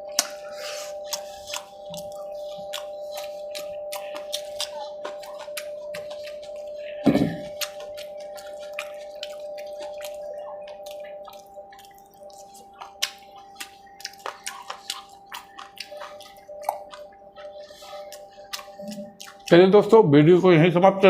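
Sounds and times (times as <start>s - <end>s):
wet chewing and lip smacking: 0.0s - 19.9s
steady humming tone: 0.0s - 21.0s.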